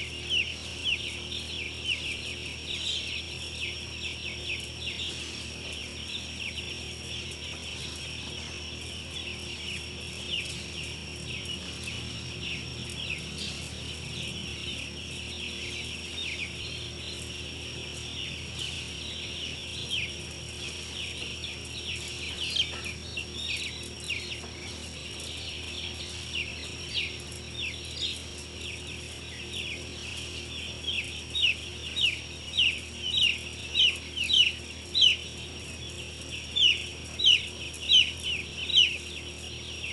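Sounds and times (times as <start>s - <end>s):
chicks peeping: 0.0s - 39.9s
machine hum: 0.0s - 39.9s.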